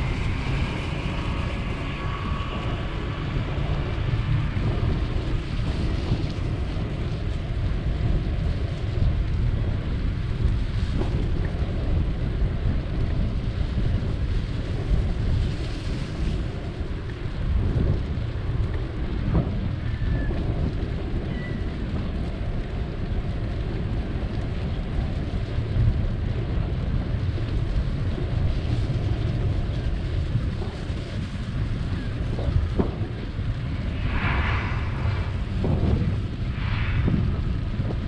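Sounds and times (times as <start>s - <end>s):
bicycle road rumble on concrete: 0.0s - 38.0s
wind buffeting microphone: 0.0s - 38.0s.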